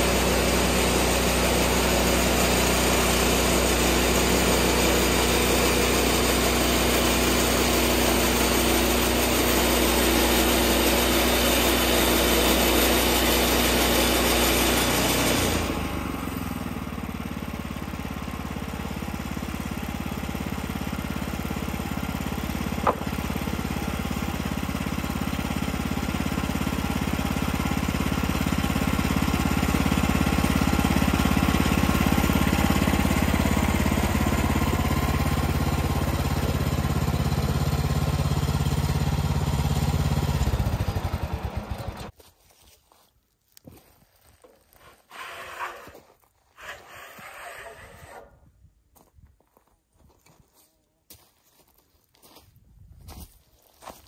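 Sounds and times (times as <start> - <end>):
sawmill engine running: 0.0 - 42.1, 45.1 - 46.0, 46.6 - 48.3.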